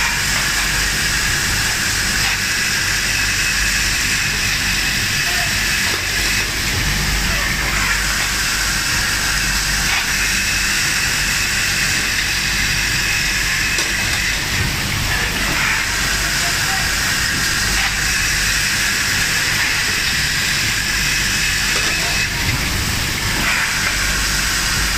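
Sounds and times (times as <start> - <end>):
grinding machines hissing and humming: 0.0 - 24.9.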